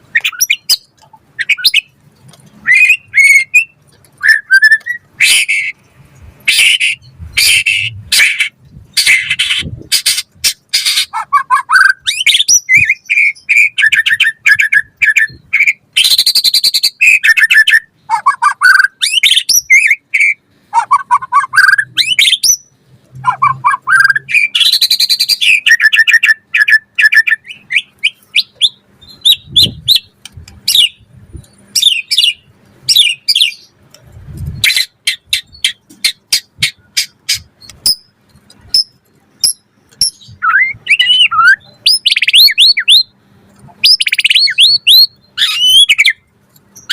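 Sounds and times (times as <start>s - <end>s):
bird singing whistled song: 0.1s - 1.9s, 2.6s - 5.8s, 6.5s - 30.1s, 30.7s - 31.0s, 31.8s - 33.7s, 38.7s - 43.2s, 43.8s - 46.9s.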